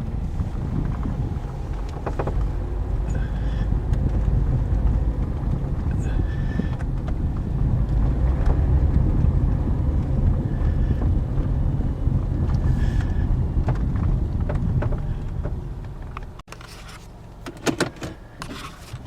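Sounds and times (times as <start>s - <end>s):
road and tyre rumble: 0.0s - 19.0s
suspension clunks and rattles: 0.0s - 19.0s.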